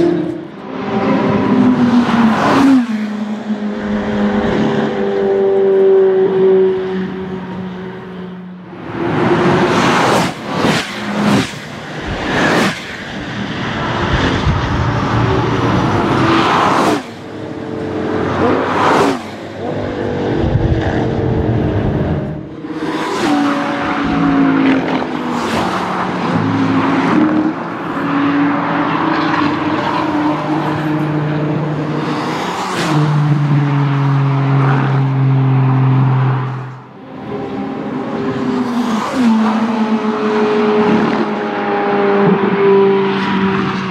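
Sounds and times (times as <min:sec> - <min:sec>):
sports cars passing at speed: 0:00.0 - 0:43.9.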